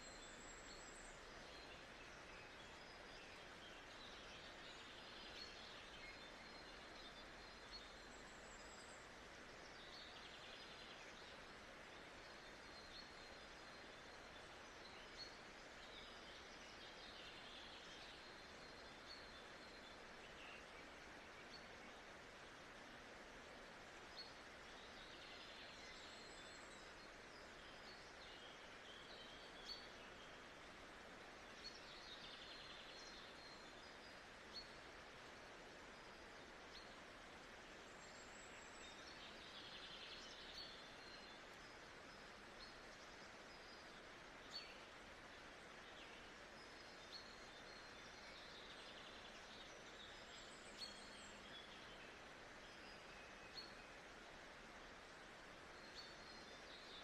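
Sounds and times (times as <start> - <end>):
soft steady hiss: 0.0 - 57.0.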